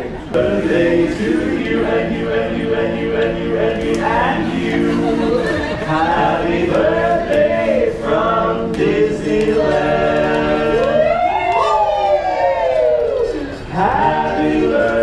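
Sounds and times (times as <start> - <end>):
men singing in close harmony: 0.3 - 11.2, 13.7 - 15.0.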